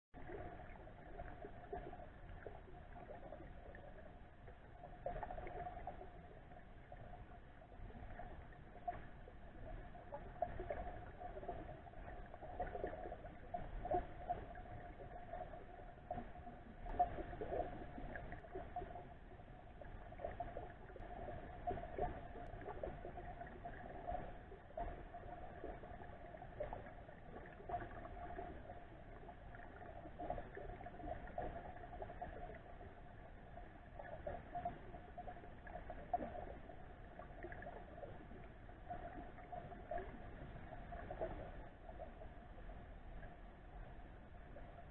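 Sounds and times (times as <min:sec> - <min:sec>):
underwater rushing water: 0:00.2 - 0:44.9.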